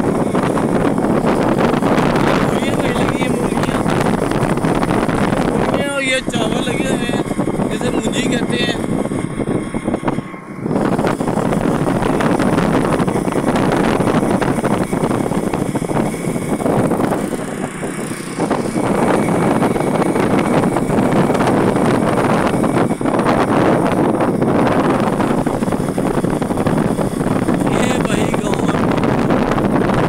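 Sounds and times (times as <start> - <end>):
vehicle engine driving: 0.0 - 30.0
wind on microphone: 0.0 - 30.0.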